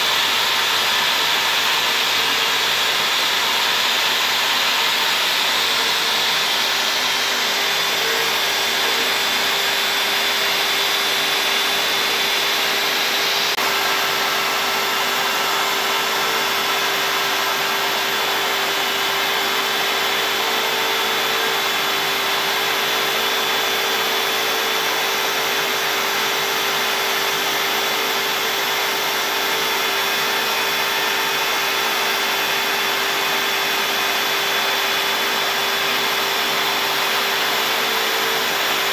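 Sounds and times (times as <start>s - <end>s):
router bit carving board: 0.0s - 38.9s.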